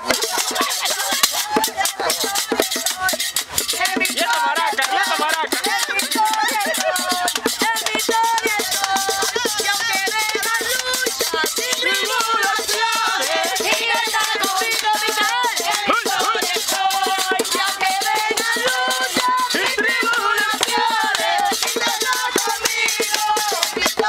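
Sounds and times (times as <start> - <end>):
bongo drums: 0.0 - 24.0
metal shaker rattling: 0.0 - 24.0
voices singing: 0.0 - 24.0.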